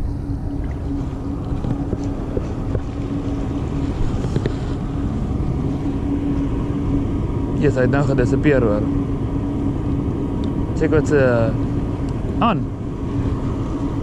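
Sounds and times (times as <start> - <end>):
boat motor running: 0.0 - 14.0
wind rumbling on microphone: 0.0 - 14.0.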